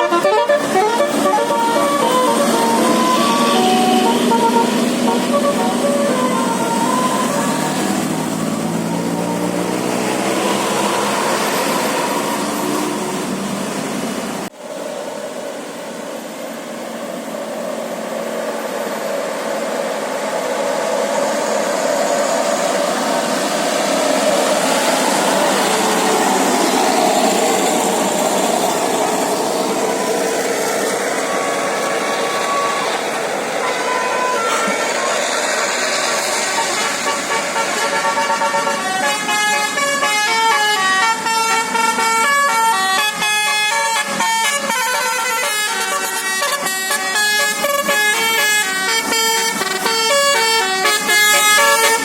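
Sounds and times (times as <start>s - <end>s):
bus engines: 0.0s - 52.0s
road traffic: 0.0s - 52.0s.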